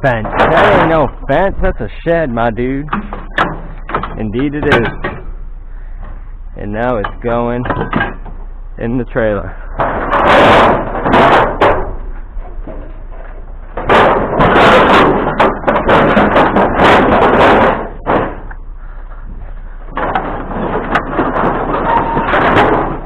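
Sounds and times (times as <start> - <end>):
shed pieces clattering into trailer: 0.0 - 6.2, 6.8 - 8.4, 9.7 - 18.6, 19.4 - 23.0.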